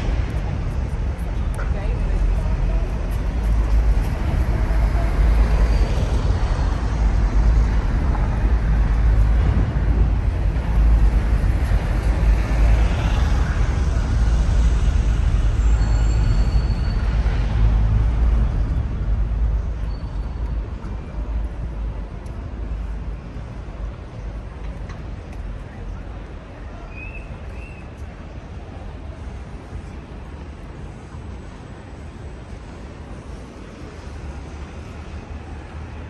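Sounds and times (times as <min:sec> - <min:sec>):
city traffic rumble: 0:00.0 - 0:36.0
train crossing bridge: 0:00.0 - 0:36.0.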